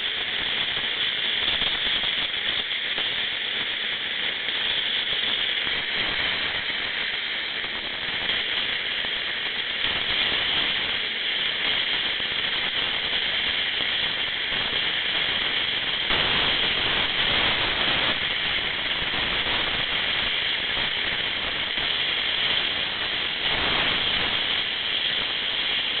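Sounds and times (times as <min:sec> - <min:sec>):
gas hissing from cylinder valve: 0:00.0 - 0:26.0.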